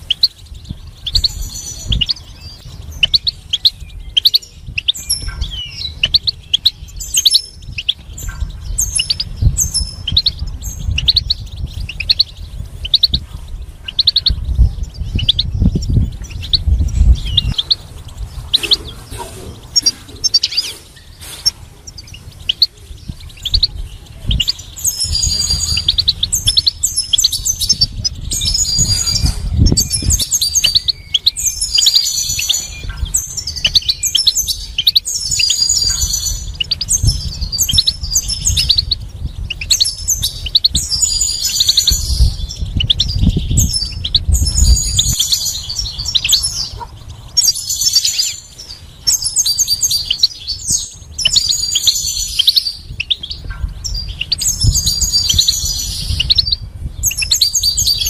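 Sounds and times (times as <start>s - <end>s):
goldfinch singing: 0.0s - 58.0s.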